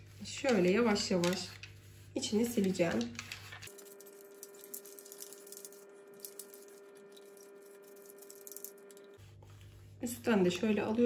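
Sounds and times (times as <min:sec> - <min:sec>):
cloth wiping plastic: 0:00.0 - 0:11.0.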